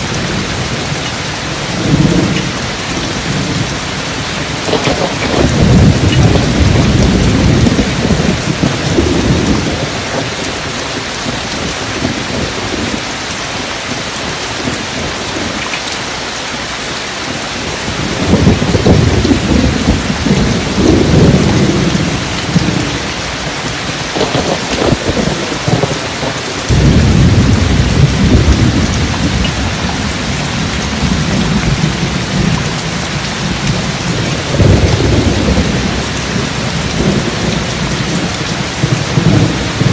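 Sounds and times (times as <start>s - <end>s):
deep rolling thunder: 0.0s - 13.1s, 17.3s - 39.9s
heavy rain: 0.0s - 39.9s.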